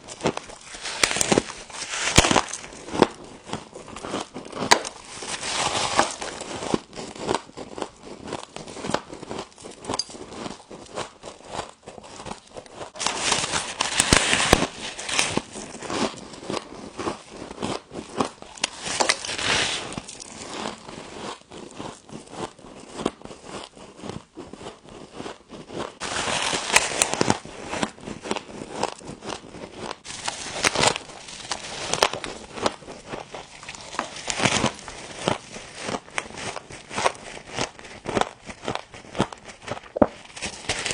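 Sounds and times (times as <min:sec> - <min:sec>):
frost crunching as eaten: 0:00.0 - 0:40.9.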